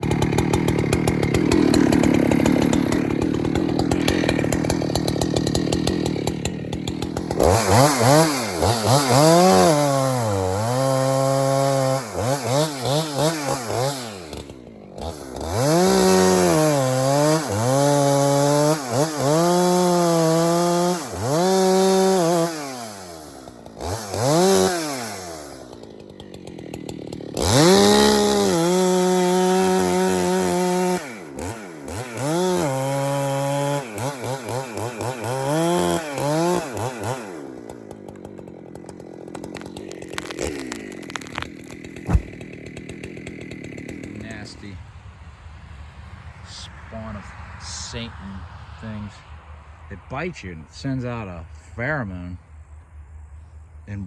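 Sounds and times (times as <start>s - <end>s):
chainsaw engine revving: 0.0s - 44.8s.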